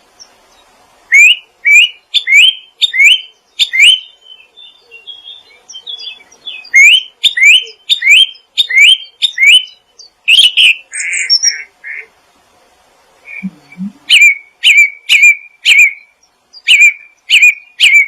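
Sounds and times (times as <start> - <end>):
songbird whistling and twittering: 0.2 - 11.7, 13.3 - 18.0.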